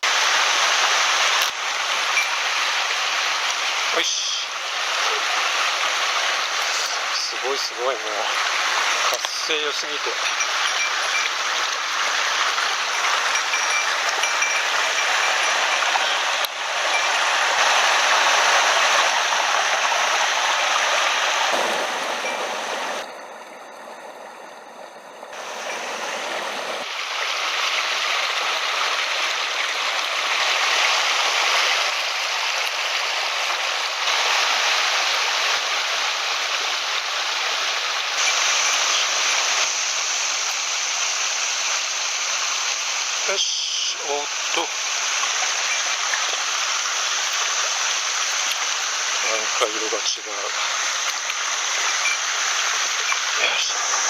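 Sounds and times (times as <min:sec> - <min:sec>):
mountain stream running: 0:00.0 - 0:54.0.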